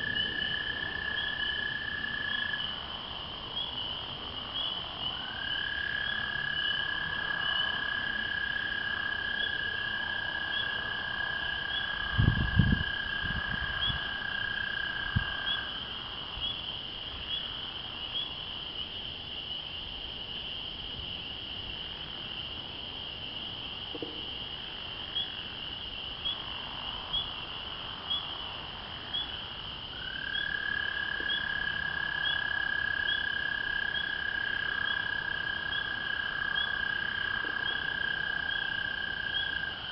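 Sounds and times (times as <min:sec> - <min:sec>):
frogs peeping: 0:00.0 - 0:19.8, 0:23.2 - 0:39.9.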